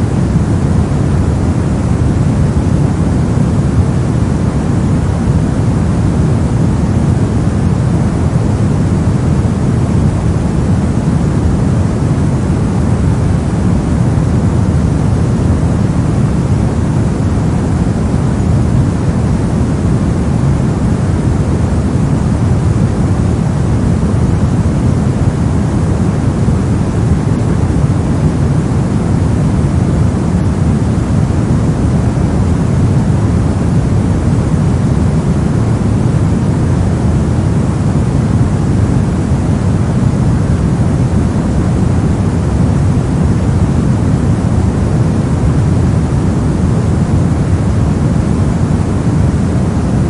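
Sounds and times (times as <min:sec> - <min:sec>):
deep muffled white noise: 0:00.0 - 0:50.0.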